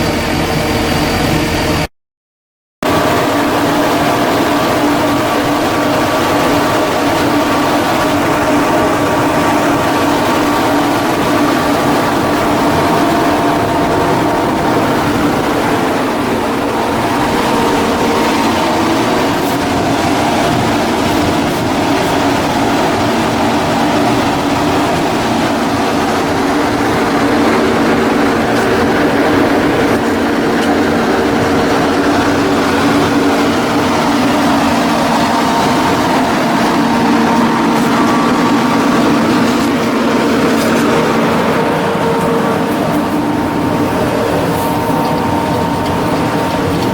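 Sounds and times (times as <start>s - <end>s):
machine humming: 2.8s - 46.9s.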